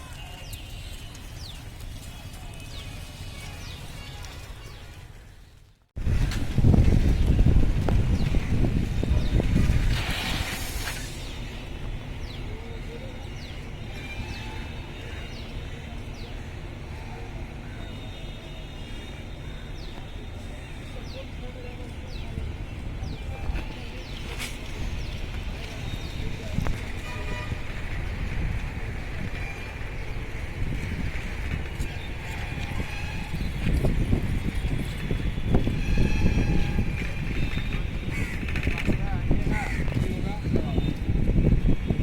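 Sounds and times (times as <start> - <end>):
passenger train rumbling: 6.0 - 17.9, 19.1 - 42.0.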